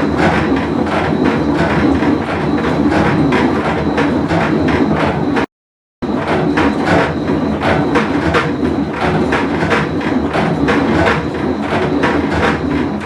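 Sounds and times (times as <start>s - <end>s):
rhythmic knocking clatter: 0.0s - 13.0s
washing machine rumbling: 0.0s - 13.0s.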